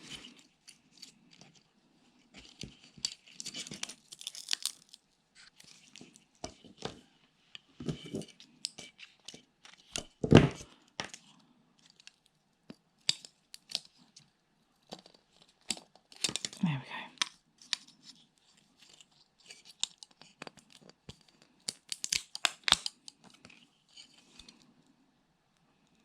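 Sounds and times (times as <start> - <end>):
plastic parts clicking and scraping: 0.0 - 7.1, 7.8 - 16.6, 17.2 - 24.7.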